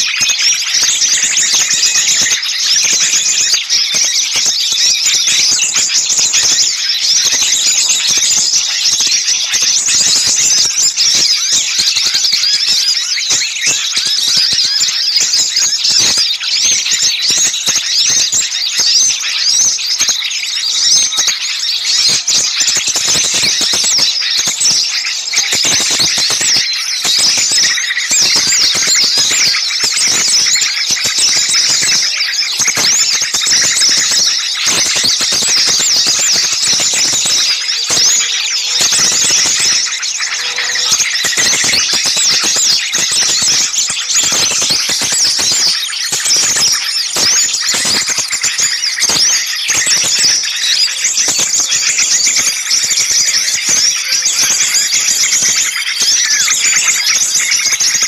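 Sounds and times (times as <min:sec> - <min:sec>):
chorus of small birds chirping: 0:00.0 - 0:58.0.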